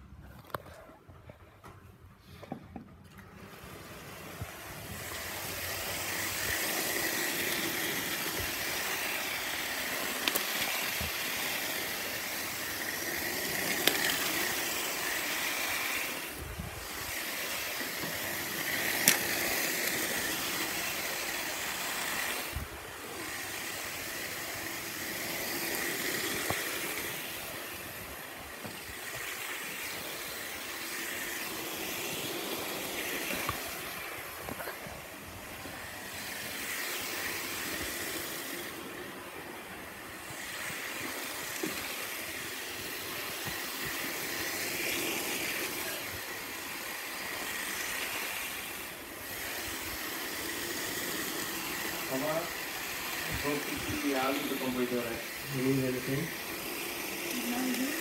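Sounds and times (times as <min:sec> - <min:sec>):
toy train whirring on track: 0:02.3 - 0:58.0.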